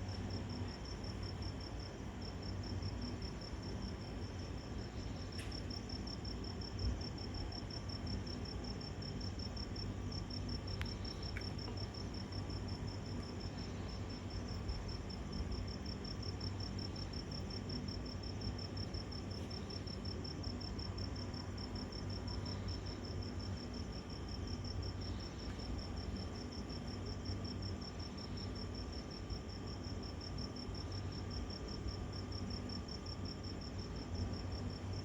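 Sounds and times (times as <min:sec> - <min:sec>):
crickets chirping: 0:00.0 - 0:35.0
low background hum: 0:00.0 - 0:35.0.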